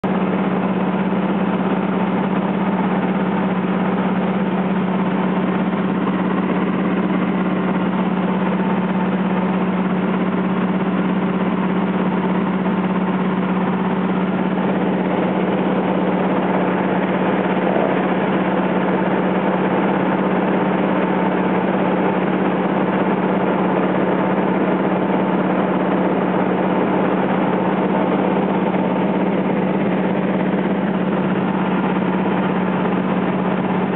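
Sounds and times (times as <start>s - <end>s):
aircraft engine droning: 0.0s - 33.9s.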